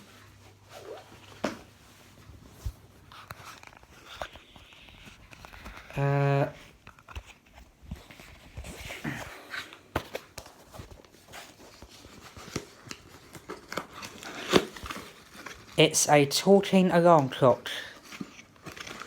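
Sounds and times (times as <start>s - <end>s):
cardboard packaging being opened: 0.0s - 16.6s, 17.2s - 19.0s.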